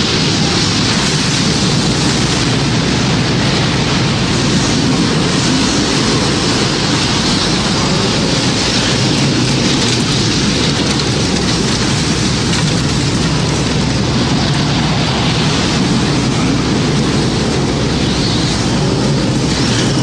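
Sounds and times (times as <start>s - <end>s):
heavy rain: 0.0s - 20.0s
rush of wind: 0.0s - 20.0s.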